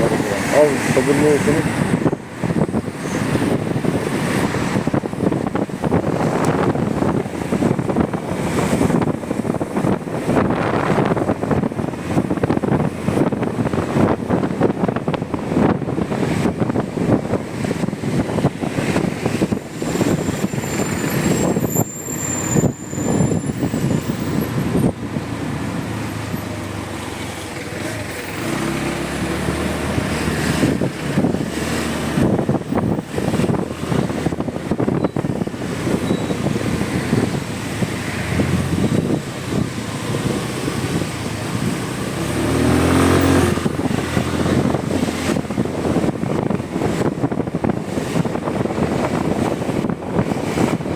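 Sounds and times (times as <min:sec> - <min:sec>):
wind rushing: 0:00.0 - 0:26.4, 0:28.2 - 0:50.9.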